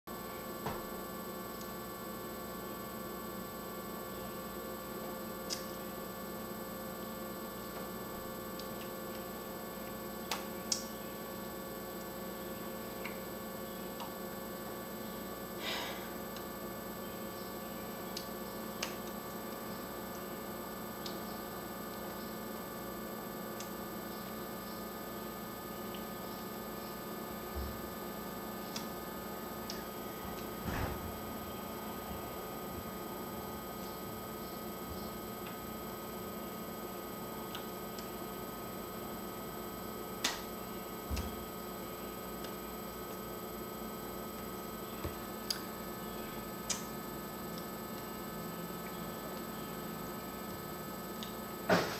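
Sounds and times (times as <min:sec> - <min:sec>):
electrical hum: 0:00.1 - 0:51.9.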